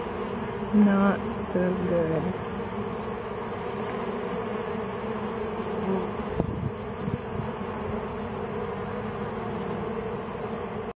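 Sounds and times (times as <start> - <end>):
honey bees buzzing: 0.0 - 10.9.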